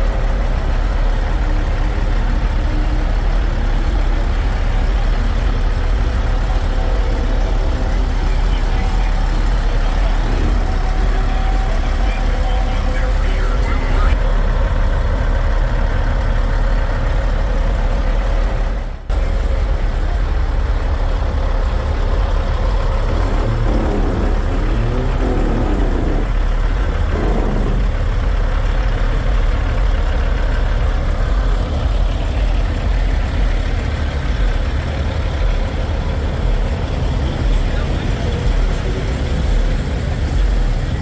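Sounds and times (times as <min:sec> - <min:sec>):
truck engines idling: 0:00.0 - 0:41.0.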